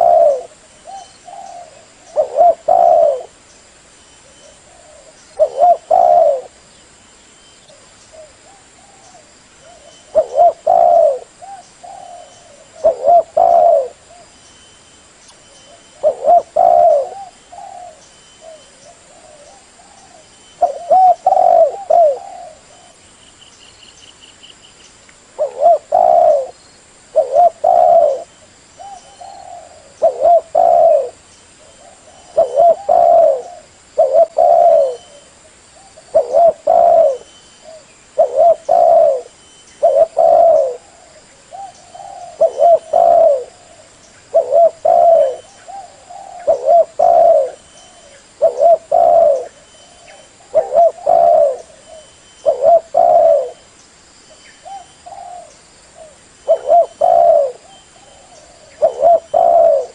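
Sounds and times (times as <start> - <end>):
dove cooing: 0.0 - 3.4, 4.2 - 6.6, 8.1 - 14.4, 15.7 - 23.0, 25.4 - 53.7, 54.6 - 59.9.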